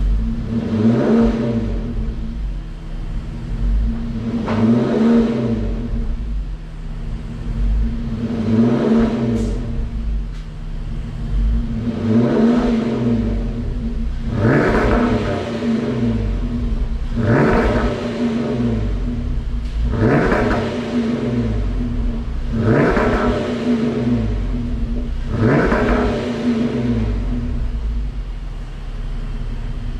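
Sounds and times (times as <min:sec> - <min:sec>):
car engine revving and idling: 0:00.0 - 0:29.9.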